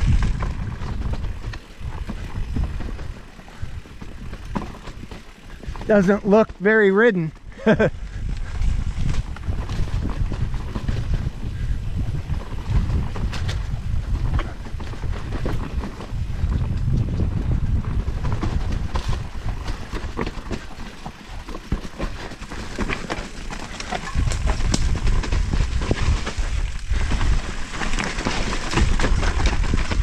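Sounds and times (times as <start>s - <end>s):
wind buffeting microphone: 0.0s - 6.6s, 7.4s - 30.0s
bike clicks and rattles: 0.0s - 30.0s
tyres rolling over dirt: 0.0s - 30.0s.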